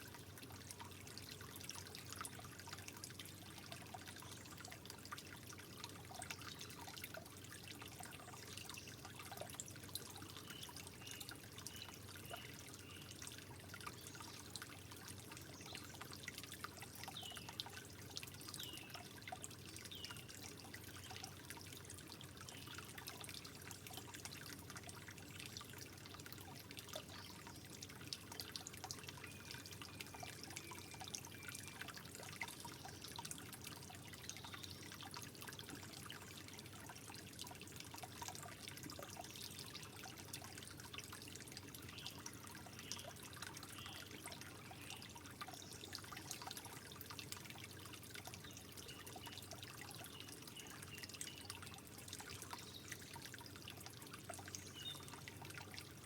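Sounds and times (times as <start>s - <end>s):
water drips and plinks: 0.0s - 56.0s
water trickling: 0.0s - 56.0s.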